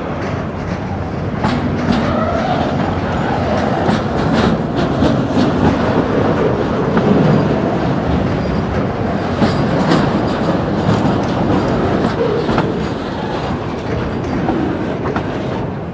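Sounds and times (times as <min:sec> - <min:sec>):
steel wheels rumbling on rails: 0:00.0 - 0:15.9
sharp clicks and clanks: 0:00.2 - 0:15.4.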